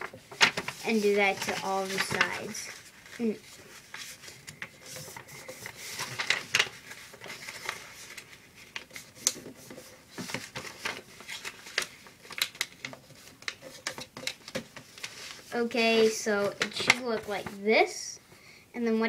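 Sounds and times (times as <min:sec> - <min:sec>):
paper folding and creasing: 0:00.0 - 0:17.6.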